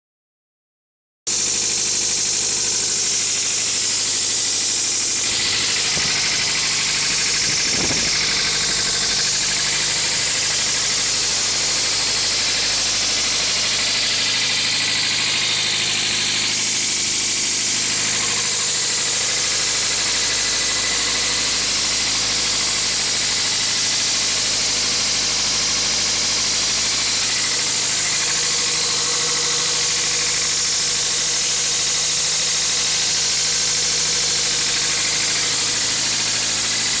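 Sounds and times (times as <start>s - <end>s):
car engine running with rattle: 1.3s - 37.0s.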